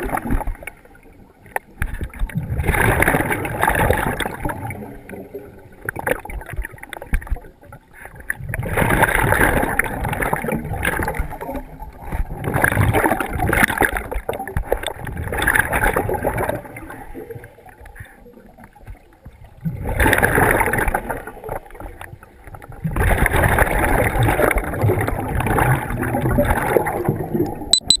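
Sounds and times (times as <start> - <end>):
gurgling rush of bubbles: 0.0 - 17.8, 18.4 - 27.7.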